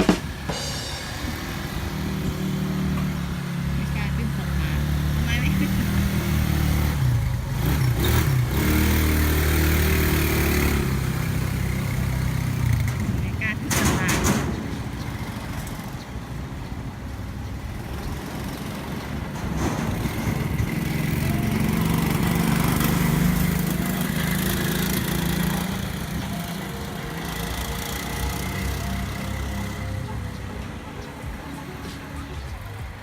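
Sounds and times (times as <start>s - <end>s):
small petrol engine running: 0.0s - 14.1s, 17.1s - 30.5s.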